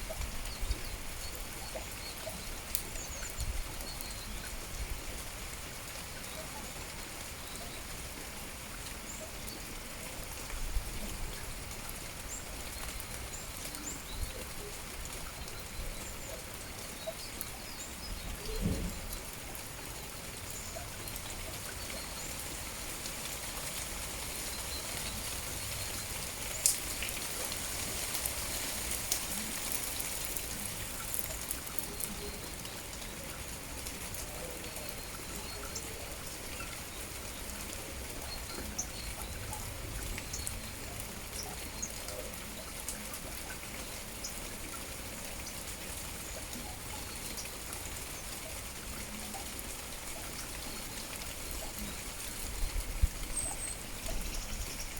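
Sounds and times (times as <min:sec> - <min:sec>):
water drips ticking: 0:00.0 - 0:08.0, 0:08.7 - 0:54.9
steady rain falling: 0:00.0 - 0:54.9.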